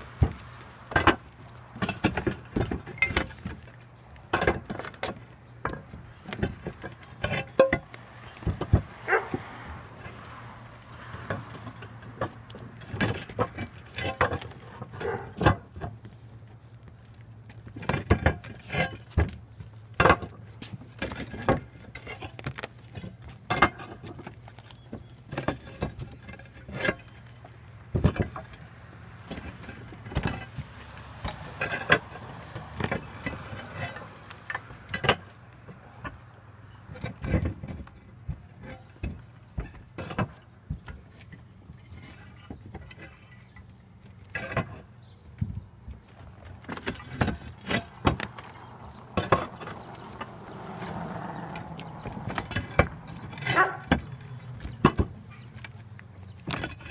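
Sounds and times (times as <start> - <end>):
roof tiles clacking: 0.0 - 56.9.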